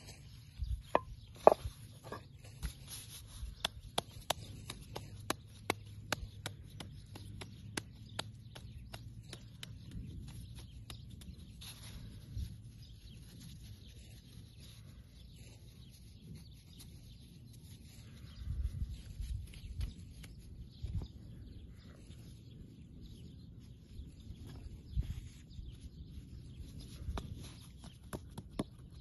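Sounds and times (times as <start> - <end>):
hands patting bread dough: 0.0 - 22.1, 24.0 - 29.0.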